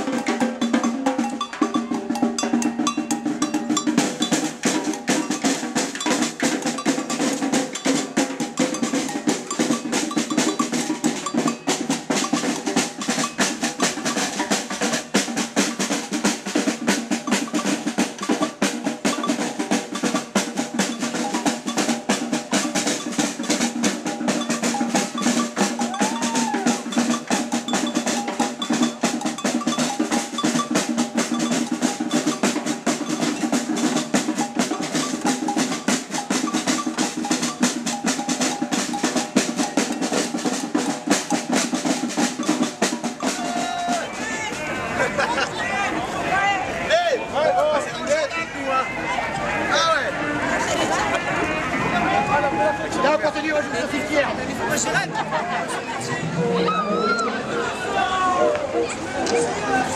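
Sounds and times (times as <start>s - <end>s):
samba drum section playing: 0.0s - 58.5s.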